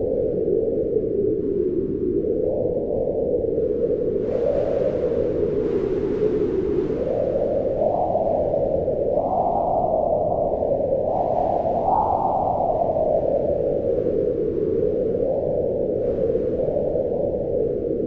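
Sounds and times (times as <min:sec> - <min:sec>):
howling wind: 0:00.0 - 0:18.0.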